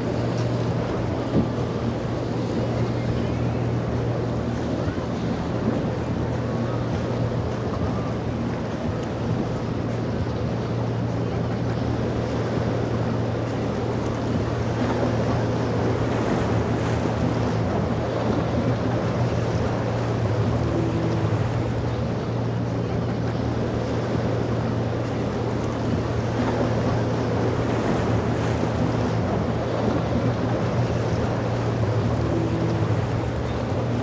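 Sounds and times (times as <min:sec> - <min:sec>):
motorboat engine hum: 0:00.0 - 0:34.0
rushing water: 0:00.0 - 0:34.0.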